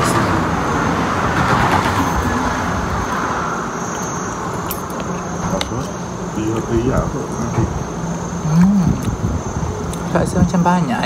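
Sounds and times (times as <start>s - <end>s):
high insect whine: 0.0s - 11.0s
vehicle passing: 0.0s - 11.0s.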